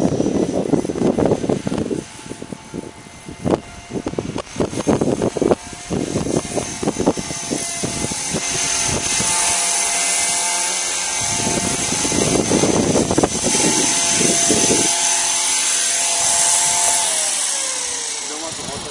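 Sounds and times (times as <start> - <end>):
rc helicopter rotor whining: 0.0 - 18.9
wind buffeting microphone: 0.0 - 18.9.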